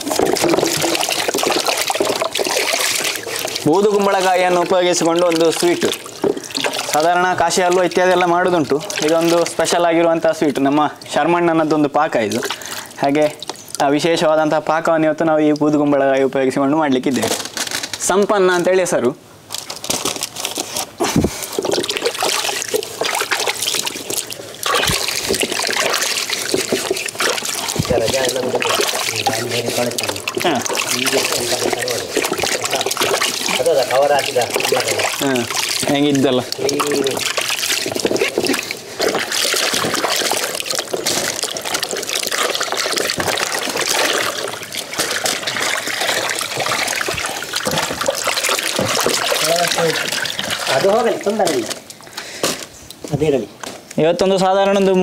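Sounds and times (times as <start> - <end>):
water sloshing in a plastic tub: 0.0 - 18.7, 19.5 - 53.4.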